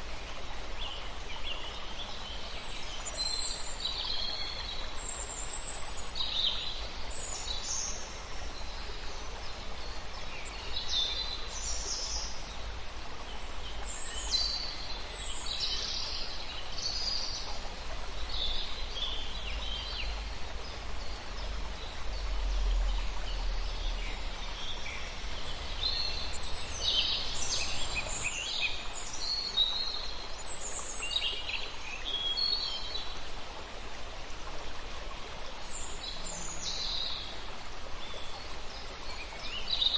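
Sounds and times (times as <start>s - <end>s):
steady background hiss: 0.0s - 39.9s
wild birds chirping and trilling: 0.0s - 39.9s.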